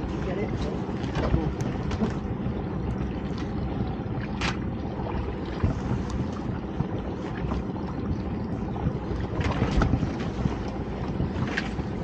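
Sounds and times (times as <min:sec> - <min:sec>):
water lapping at boat: 0:00.0 - 0:12.0
wind buffeting microphone: 0:00.0 - 0:12.0.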